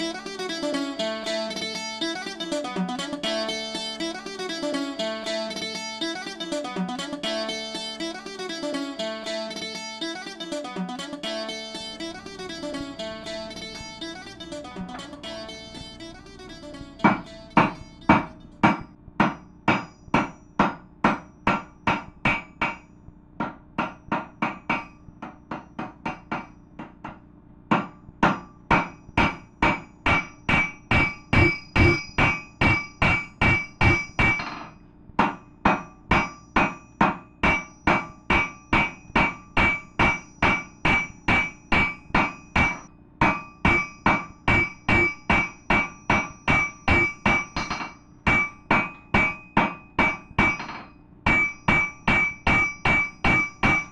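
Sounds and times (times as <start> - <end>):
hammer striking anvil: 10.4 - 53.9.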